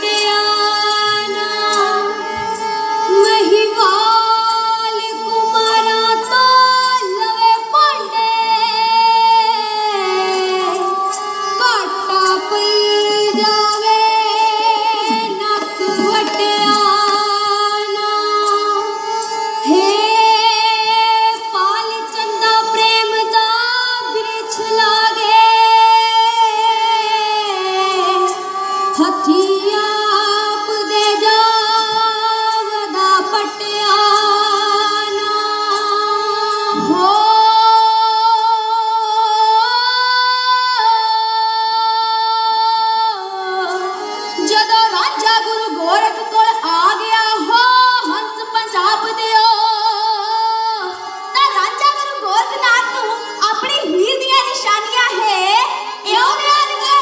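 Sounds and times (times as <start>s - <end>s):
women singing: 0.0s - 57.0s.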